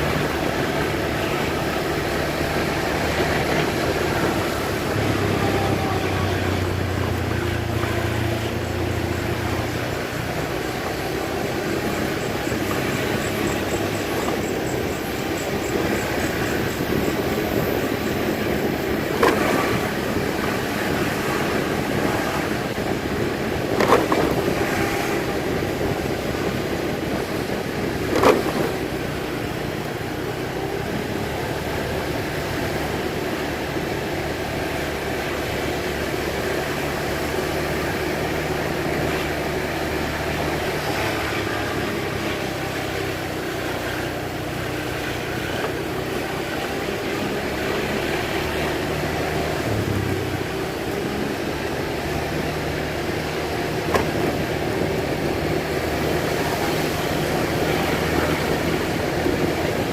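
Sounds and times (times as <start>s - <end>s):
road and wind noise: 0.0s - 59.9s
vehicle engine running: 0.0s - 59.9s.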